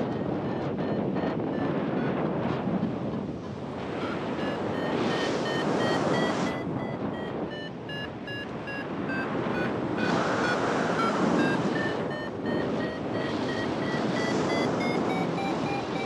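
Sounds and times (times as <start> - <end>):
variometer beeping: 0.0 - 2.4, 4.0 - 16.0
wind rushing over microphone: 0.0 - 16.0.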